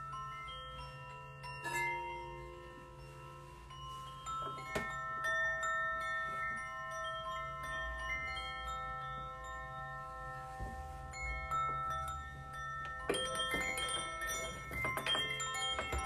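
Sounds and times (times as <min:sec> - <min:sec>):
chimes ringing: 0:00.0 - 0:16.0.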